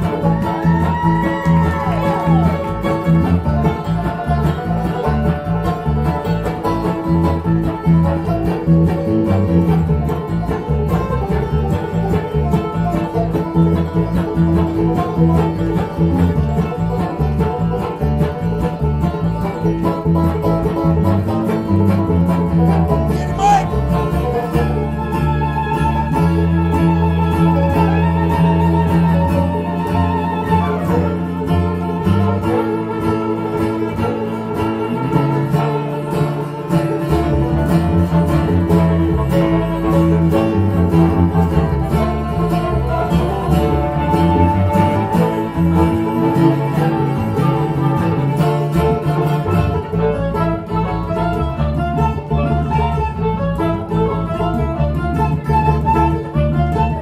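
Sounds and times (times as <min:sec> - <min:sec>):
banjo picking: 0:00.0 - 0:57.0
bluegrass band playing: 0:00.0 - 0:57.0
fiddle: 0:00.0 - 0:57.0.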